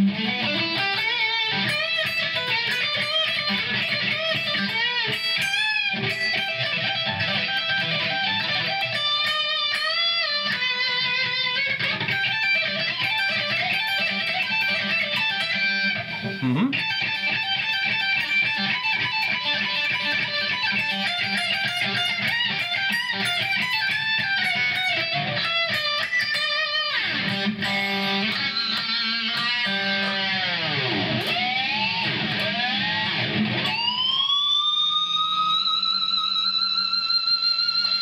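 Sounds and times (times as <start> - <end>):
electric guitar lead notes: 0.0 - 38.0.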